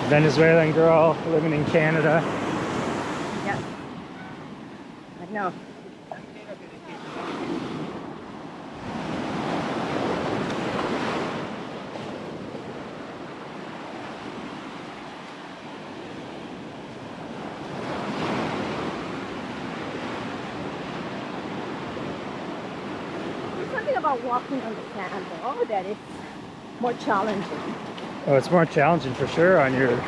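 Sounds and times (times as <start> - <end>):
ocean surf breaking: 0.0 - 30.0
wind buffeting microphone: 0.0 - 30.0.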